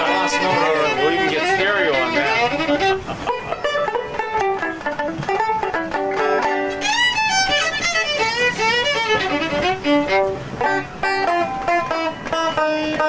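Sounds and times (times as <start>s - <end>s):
banjo picking: 0.0s - 13.0s
fiddle playing lively tune: 0.0s - 13.0s.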